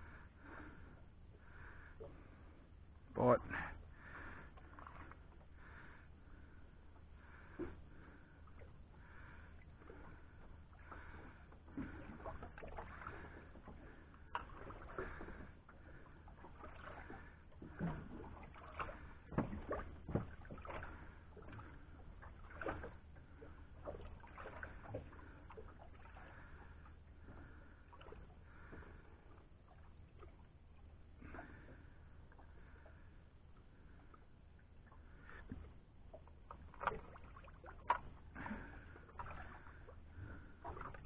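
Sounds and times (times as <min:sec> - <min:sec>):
steady low hum: 0:00.0 - 0:41.0
water lapping against boat hull: 0:00.0 - 0:41.0.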